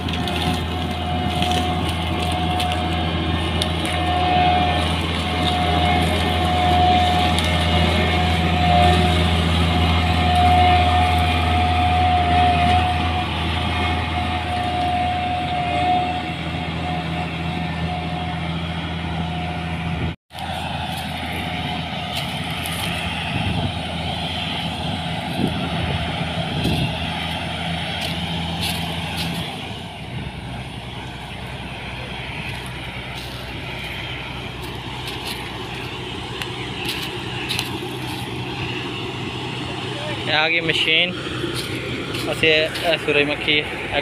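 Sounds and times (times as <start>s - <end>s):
combine harvester diesel engine: 0.0s - 44.0s.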